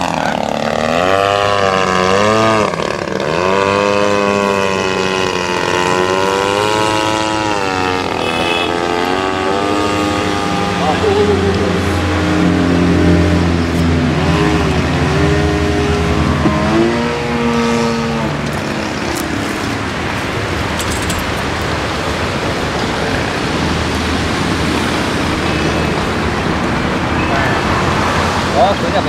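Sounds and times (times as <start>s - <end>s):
jet turbine roaring: 0.0s - 29.0s.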